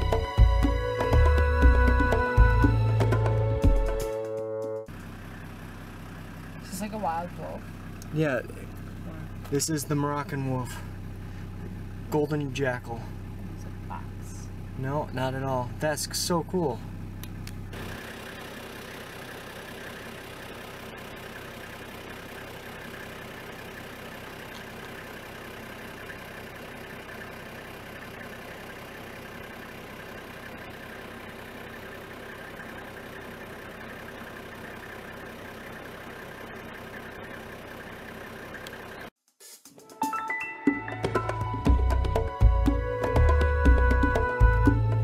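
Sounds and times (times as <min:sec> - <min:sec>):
vehicle engine idling: 0:00.0 - 0:04.0, 0:04.8 - 0:39.1, 0:41.2 - 0:45.0.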